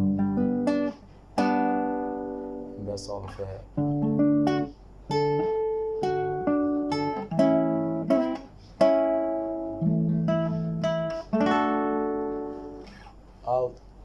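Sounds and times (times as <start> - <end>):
acoustic guitar strumming chords: 0.0 - 13.2.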